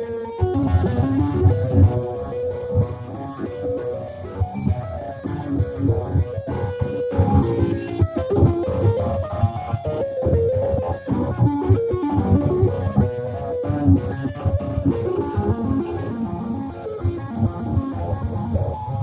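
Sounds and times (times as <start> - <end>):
electric guitar tapping runs: 0.0 - 19.0.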